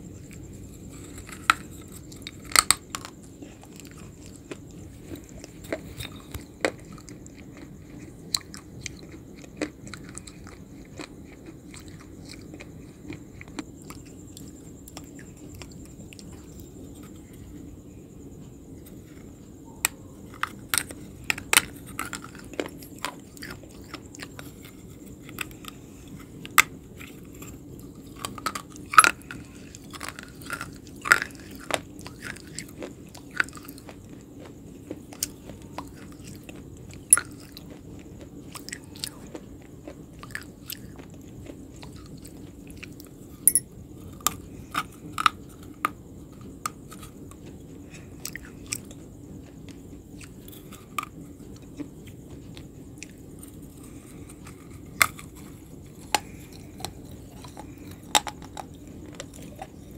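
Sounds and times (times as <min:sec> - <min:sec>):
crunchy food chewing: 0:00.0 - 0:59.9.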